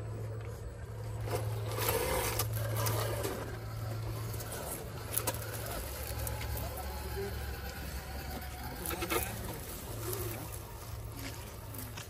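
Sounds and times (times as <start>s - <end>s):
electric motor and gears humming: 0.0s - 12.0s
tyres crunching over dirt and leaves: 0.2s - 12.0s.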